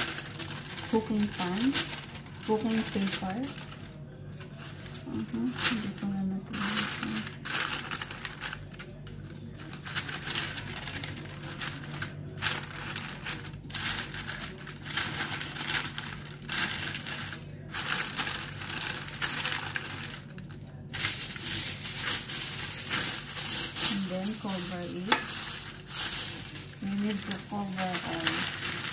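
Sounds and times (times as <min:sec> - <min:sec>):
baking paper crinkling: 0:00.0 - 0:28.9.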